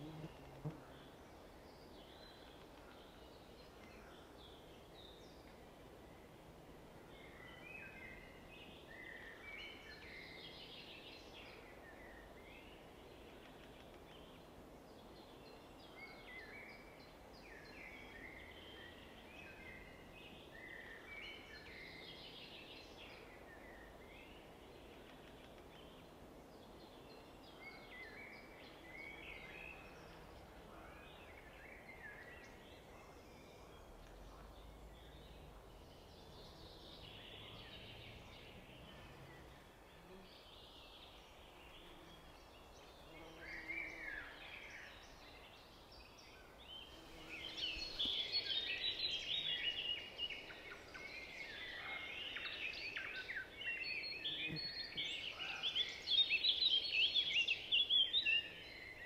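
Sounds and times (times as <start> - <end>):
low steady hiss: 0.0 - 59.0
faint bird chirping: 7.0 - 59.0.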